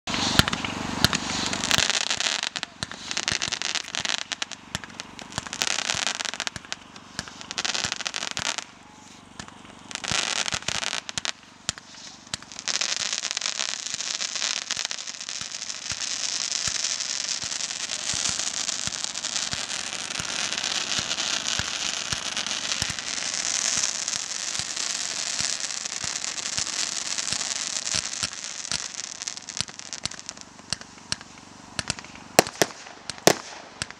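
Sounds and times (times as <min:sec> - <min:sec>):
fireworks crackling and popping: 0:00.0 - 0:33.9.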